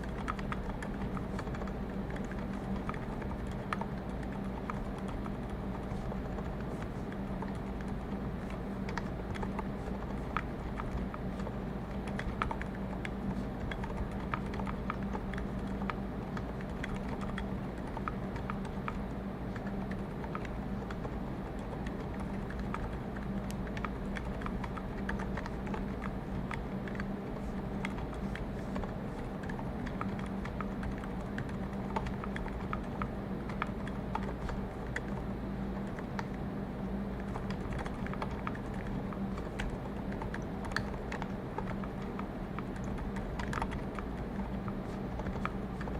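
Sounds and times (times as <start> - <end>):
low background hum: 0.0 - 45.9
muted keyboard keystrokes: 0.0 - 45.9.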